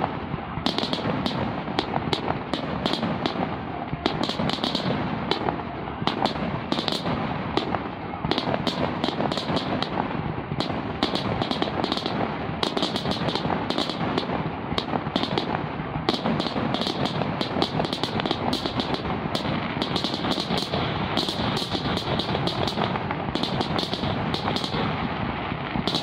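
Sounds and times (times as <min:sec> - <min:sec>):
continuous rumble: 0:00.0 - 0:26.0
firework bangs and crackles: 0:00.0 - 0:26.0.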